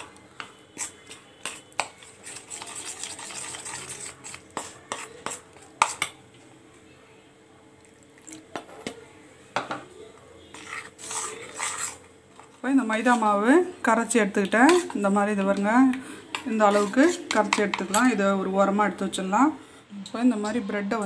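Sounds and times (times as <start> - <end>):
metal spoon stirring batter: 0.0 - 6.4, 7.9 - 19.4, 20.0 - 21.0.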